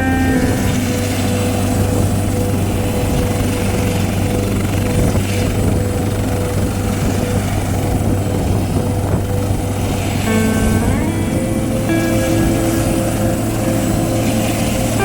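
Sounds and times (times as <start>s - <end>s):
helicopter rotor and engine: 0.0s - 15.0s
sustained musical notes: 0.0s - 15.0s
thin steady whine: 0.0s - 15.0s.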